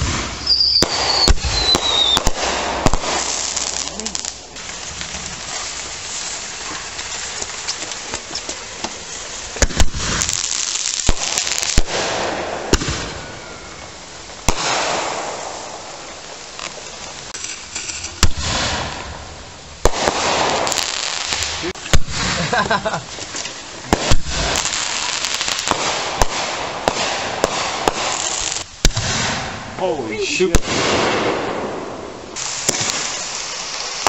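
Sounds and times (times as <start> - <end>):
fireworks bangs: 0.0 - 34.0
fireworks crackling: 0.0 - 34.0.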